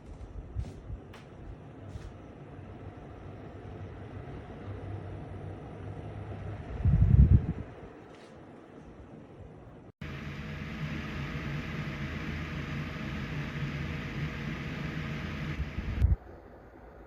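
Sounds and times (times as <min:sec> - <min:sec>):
heater fan blowing air: 0:00.0 - 0:17.0.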